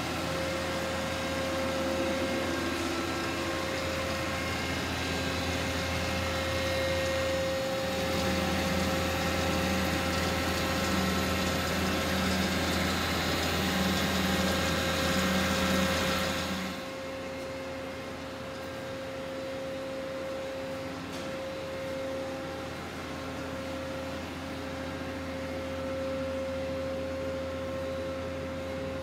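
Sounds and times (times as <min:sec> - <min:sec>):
machine hum with whine: 0:00.0 - 0:29.0.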